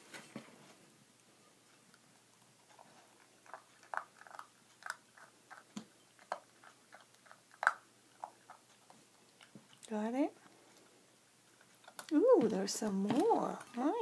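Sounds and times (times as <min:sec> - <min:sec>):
puppy crunching dry kibble: 0:01.8 - 0:14.0.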